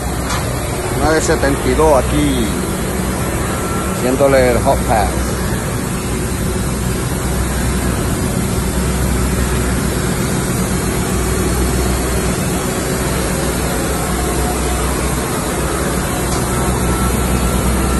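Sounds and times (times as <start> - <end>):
engine running steadily: 0.0 - 17.9.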